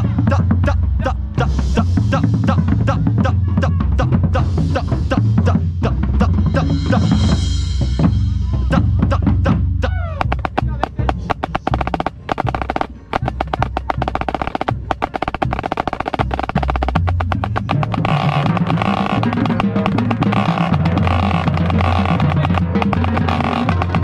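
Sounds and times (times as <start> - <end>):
bass drums: 0.0 - 24.0
wind section held chords: 0.0 - 24.0
snare drum rolls: 1.4 - 24.0.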